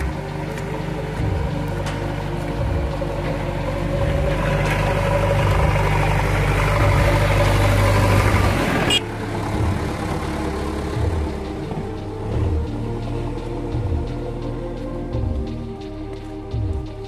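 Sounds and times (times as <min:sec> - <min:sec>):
backhoe diesel engine running: 0:00.0 - 0:17.0.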